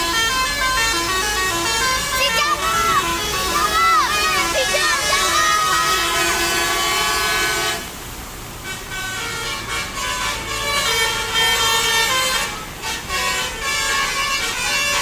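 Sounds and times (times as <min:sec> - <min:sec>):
musical air horn melody: 0:00.0 - 0:08.0, 0:08.6 - 0:15.0.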